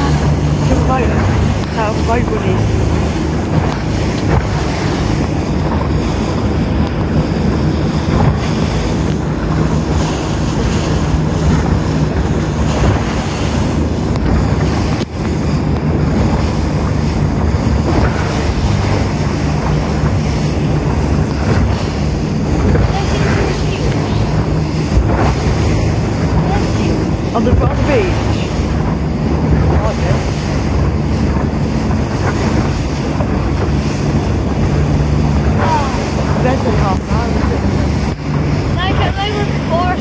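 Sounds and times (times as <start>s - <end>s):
boat engine drone: 0.0s - 40.0s
water rushing along hull: 0.0s - 40.0s
wind buffeting microphone: 0.0s - 40.0s.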